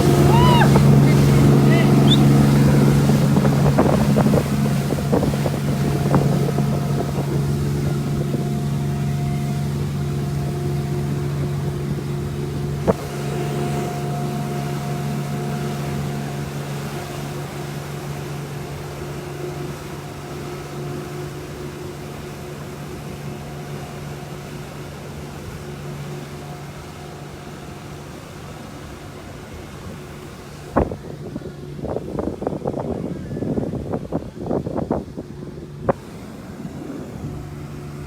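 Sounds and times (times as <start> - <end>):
motorboat engine running: 0.0 - 38.0.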